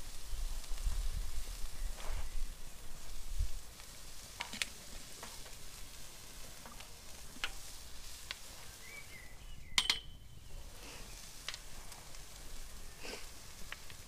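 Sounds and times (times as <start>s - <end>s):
campfire crackling and popping: 0.0s - 14.0s
faint sizzling hiss: 0.0s - 14.0s.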